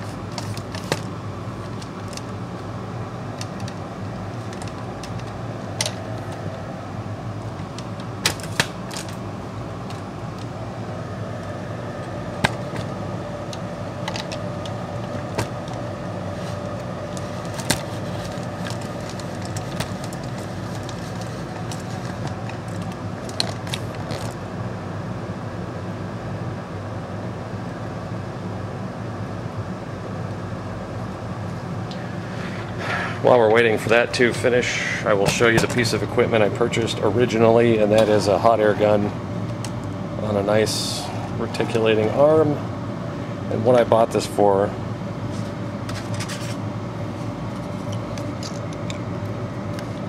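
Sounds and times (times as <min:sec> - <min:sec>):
oven humming: 0:00.0 - 0:50.0.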